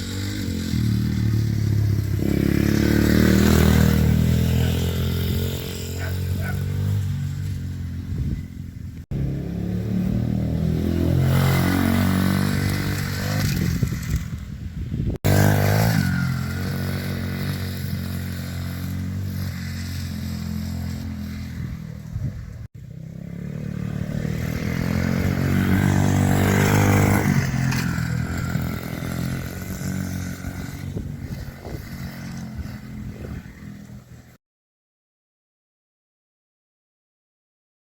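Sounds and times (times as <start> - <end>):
dirt bike engine revving: 0.0 - 8.5, 9.1 - 34.4.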